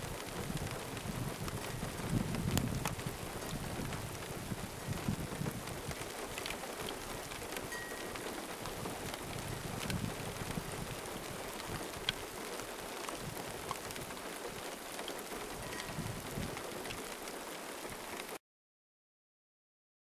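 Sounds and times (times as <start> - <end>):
steady rain falling: 0.0 - 18.4.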